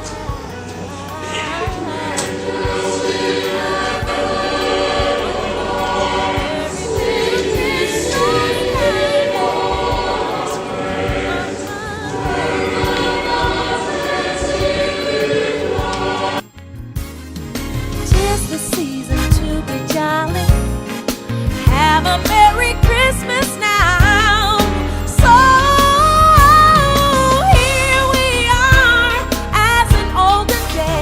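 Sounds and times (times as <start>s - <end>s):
choir singing gospel song: 0.0s - 16.5s, 18.0s - 31.0s.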